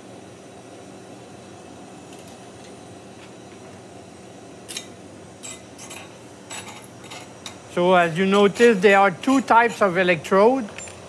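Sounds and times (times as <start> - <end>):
equipment humming and hissing: 0.0 - 11.0.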